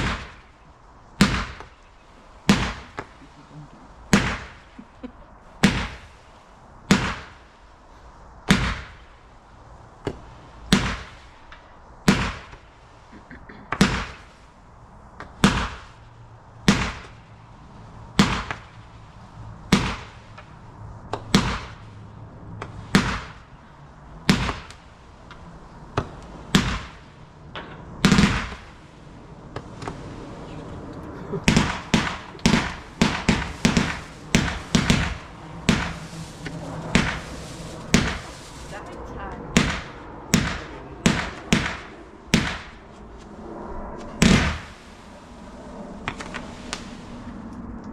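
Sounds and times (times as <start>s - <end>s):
fireworks bangs: 0.0s - 47.5s.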